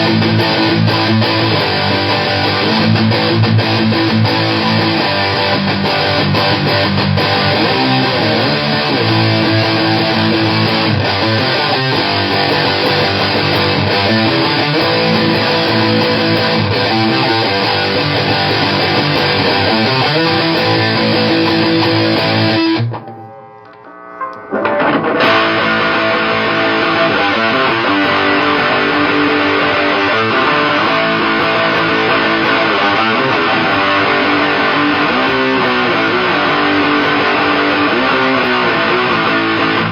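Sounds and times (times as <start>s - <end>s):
distorted electric guitar riffing: 0.0s - 39.9s.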